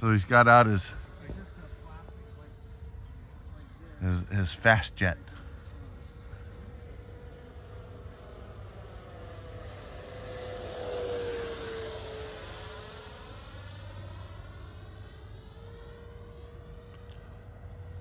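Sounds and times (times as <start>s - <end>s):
model jet whine flying past: 0.0s - 18.0s.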